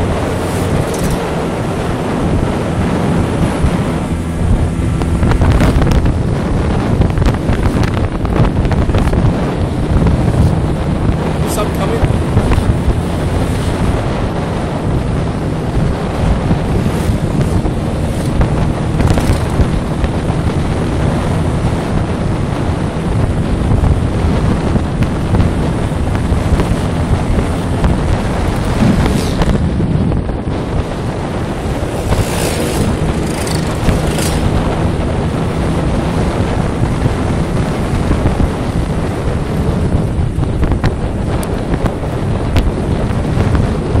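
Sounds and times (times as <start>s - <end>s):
scooter engine running: 0.0s - 44.0s
wind buffeting microphone: 0.0s - 44.0s.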